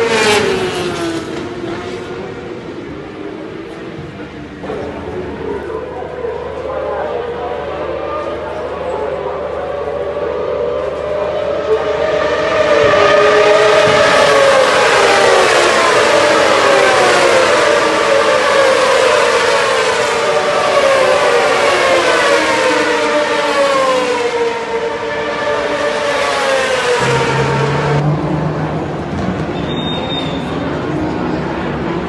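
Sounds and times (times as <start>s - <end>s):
racing motorcycles passing: 0.0s - 29.8s.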